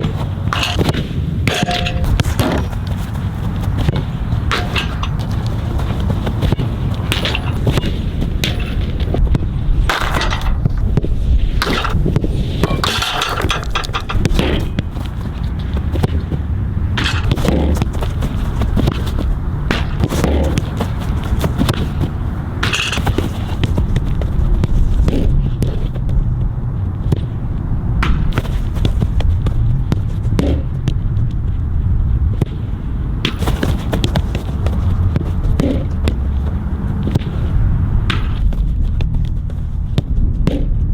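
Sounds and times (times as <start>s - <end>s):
scuffing ball strikes: 0.0s - 9.2s, 11.0s - 26.2s, 28.0s - 31.0s, 33.2s - 40.7s
footsteps: 0.0s - 27.4s, 28.0s - 31.4s, 32.4s - 40.3s
soccer ball taps and kicks: 0.0s - 31.6s, 32.3s - 40.9s
low rumble: 0.0s - 40.9s.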